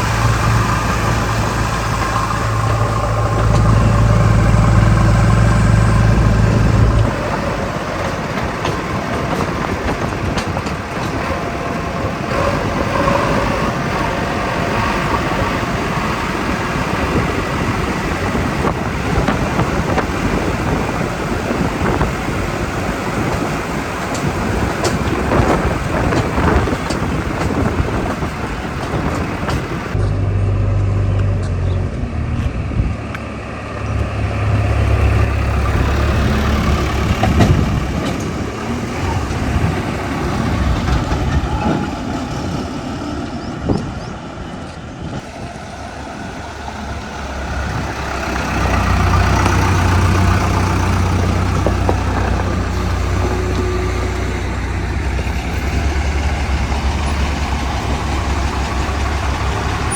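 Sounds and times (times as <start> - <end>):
diesel machinery engine running: 0.0 - 59.9.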